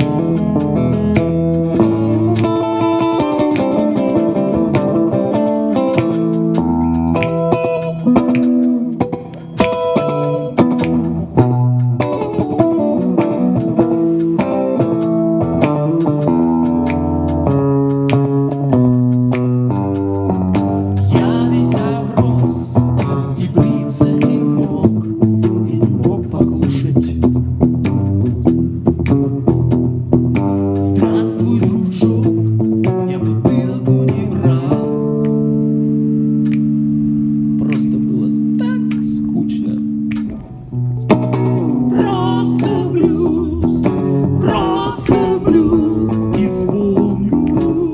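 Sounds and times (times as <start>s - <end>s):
drum hits keeping a beat: 0.0s - 34.9s, 40.0s - 47.9s
bass guitar: 0.0s - 47.9s
electric guitar: 0.0s - 47.9s.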